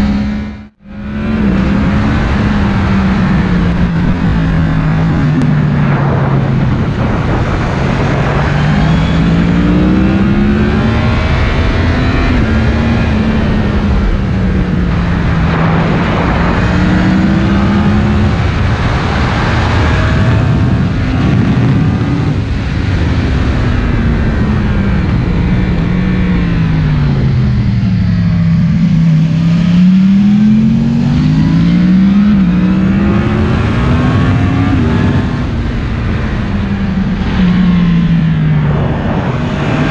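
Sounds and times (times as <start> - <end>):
motorcycle engine accelerating: 0.0 - 39.9
wind rushing: 0.0 - 39.9.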